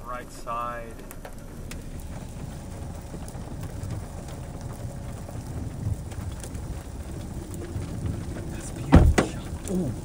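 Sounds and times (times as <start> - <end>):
raindrops pattering: 0.0 - 10.0
wind rumbling on microphone: 1.0 - 10.0.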